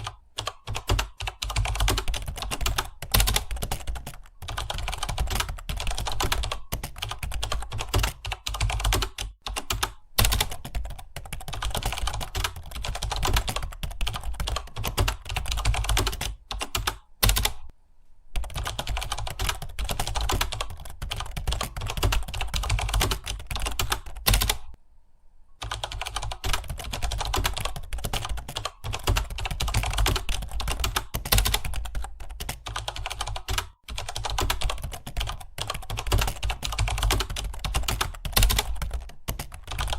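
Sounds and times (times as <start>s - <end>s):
typing on computer keyboard: 0.0s - 17.7s, 18.4s - 24.8s, 25.6s - 39.9s.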